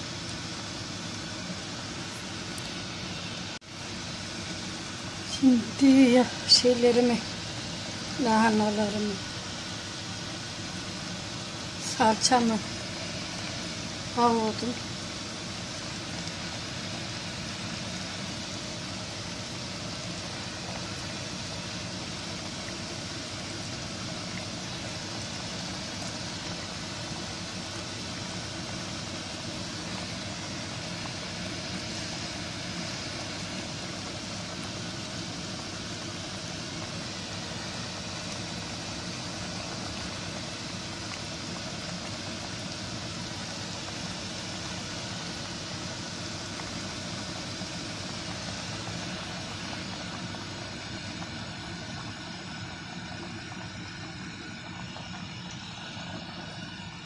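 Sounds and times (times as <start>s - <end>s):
steady hiss with low hum: 0.0s - 57.0s.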